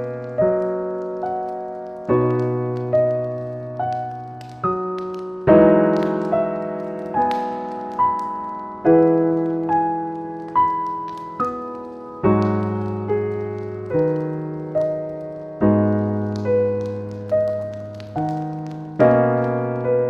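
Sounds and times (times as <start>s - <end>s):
fireplace crackling: 0.0s - 20.0s
slow solo piano: 0.0s - 20.0s.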